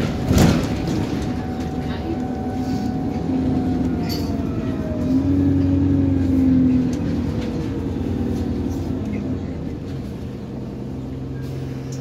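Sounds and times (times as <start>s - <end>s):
bus engine hum: 0.0s - 12.0s.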